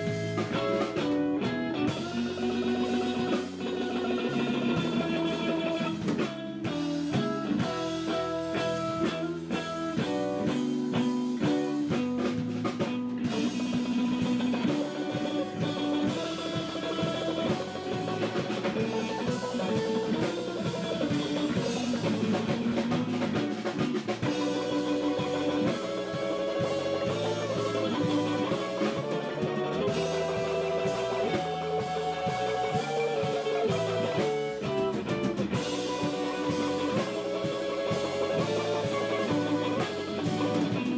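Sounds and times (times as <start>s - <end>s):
drum kit: 0.0s - 40.9s
electric bass: 0.0s - 40.9s
electric guitar melody: 0.0s - 40.9s.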